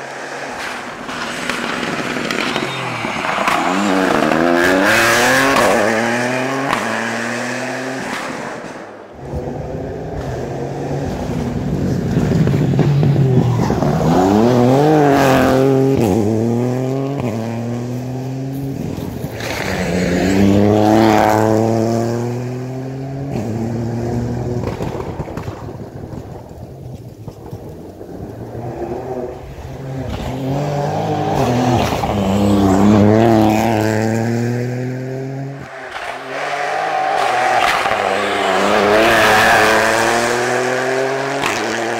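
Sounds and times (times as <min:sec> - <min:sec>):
rally car engine revving past: 0:00.1 - 0:25.4, 0:28.4 - 0:41.9.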